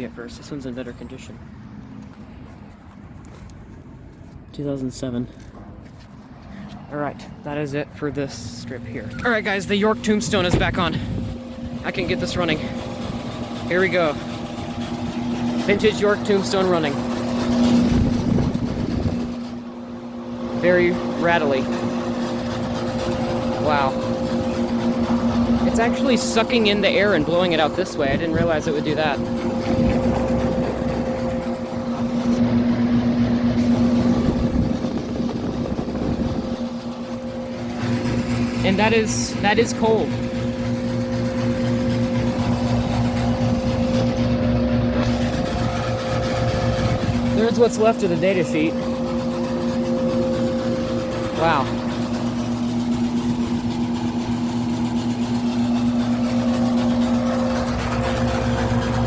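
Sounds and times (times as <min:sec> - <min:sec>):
air conditioner unit hum: 0:00.0 - 0:59.0
rattly fan and rushing air: 0:00.0 - 0:59.0.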